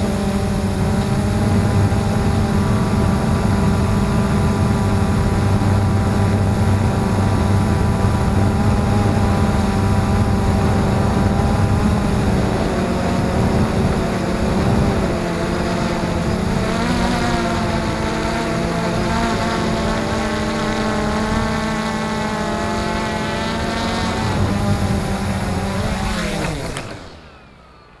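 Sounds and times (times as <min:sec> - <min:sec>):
quadcopter motors whirring: 0:00.0 - 0:28.0.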